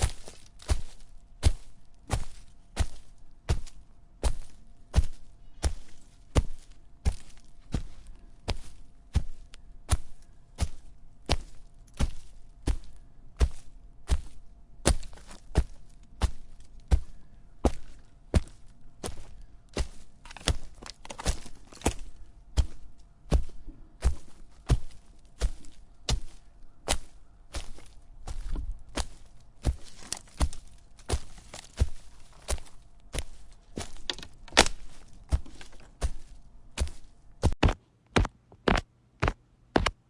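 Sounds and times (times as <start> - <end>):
footsteps walking: 0.0 - 39.9.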